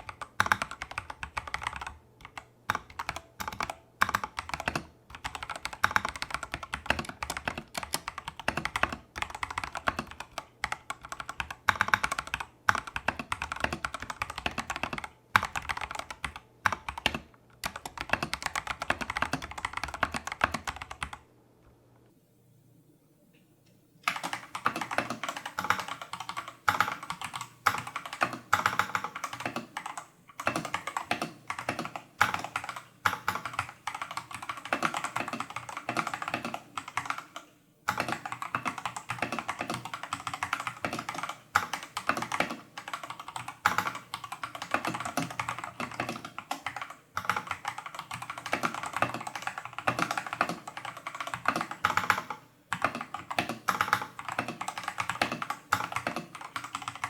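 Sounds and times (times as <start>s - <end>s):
mechanical keyboard typing: 0.0s - 21.2s, 24.1s - 57.0s.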